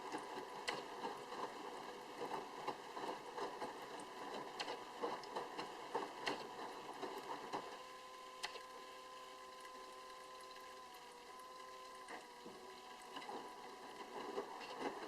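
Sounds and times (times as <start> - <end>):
motor and pump whine: 0.0 - 15.0.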